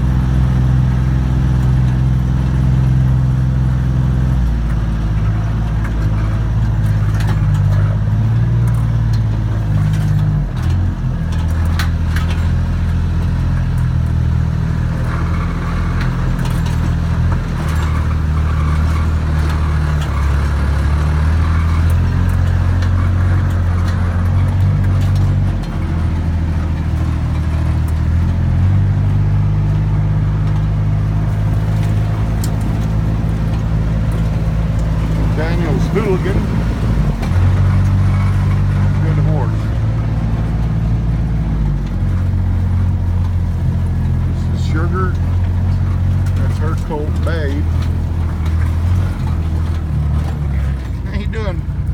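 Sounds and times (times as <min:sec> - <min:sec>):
rattles over rough ground: 0:00.0 - 0:51.9
vehicle engine running: 0:00.0 - 0:51.9.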